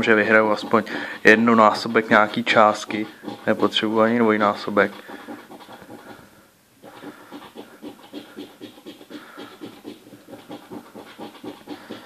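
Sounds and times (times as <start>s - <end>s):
coin scraping scratch card: 0.3s - 6.2s, 6.8s - 12.0s.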